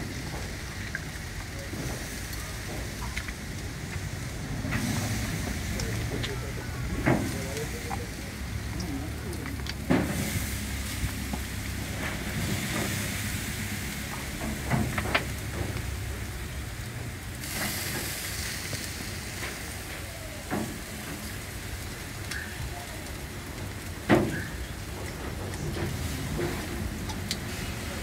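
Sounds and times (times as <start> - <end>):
chicken sizzling on a grill: 0.0 - 28.0.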